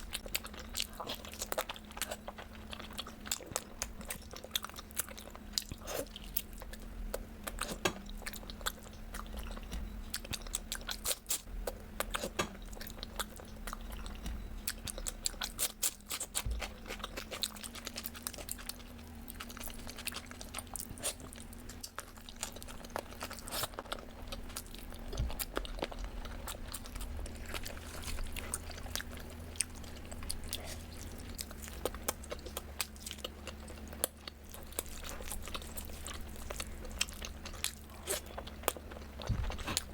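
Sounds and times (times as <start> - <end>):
faint steady hum: 0.0 - 39.9
person chewing crunchy food: 0.0 - 39.9.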